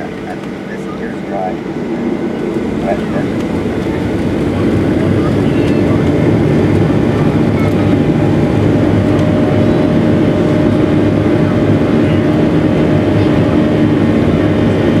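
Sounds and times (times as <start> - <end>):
jet engines roaring: 0.0 - 15.0
wheels rumbling on runway: 0.0 - 15.0.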